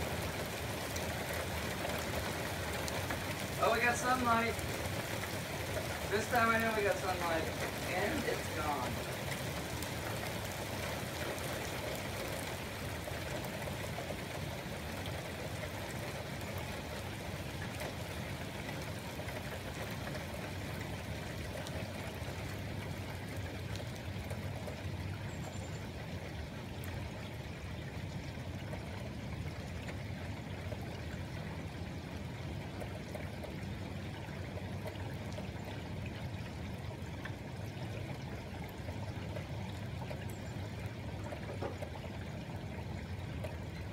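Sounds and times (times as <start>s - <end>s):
running water: 0.0s - 43.9s
steady rain: 0.0s - 43.9s.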